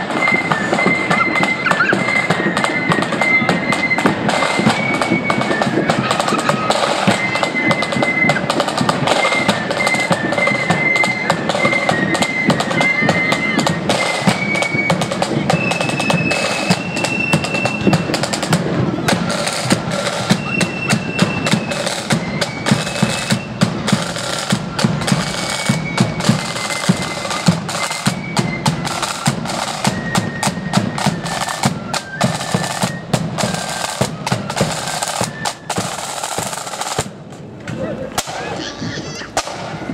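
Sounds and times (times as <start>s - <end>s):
snare drum strokes: 0.0s - 37.4s, 38.2s - 38.5s, 39.3s - 39.9s
flute melody: 0.0s - 38.3s.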